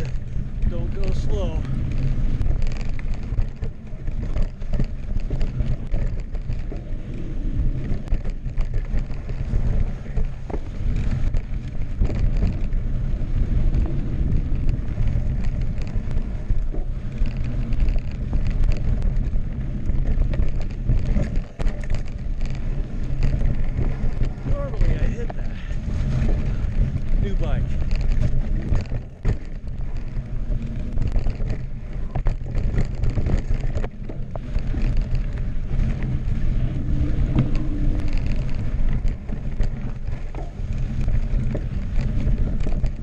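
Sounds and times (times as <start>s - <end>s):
bike clicks and rattles: 0.0s - 43.0s
bike tyres rumbling on dirt: 0.0s - 43.0s
wind on microphone: 0.0s - 43.0s.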